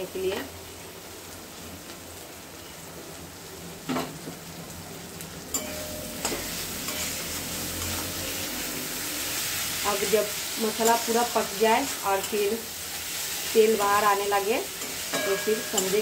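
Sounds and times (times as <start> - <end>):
onion masala sizzling in a pan: 0.0 - 16.0.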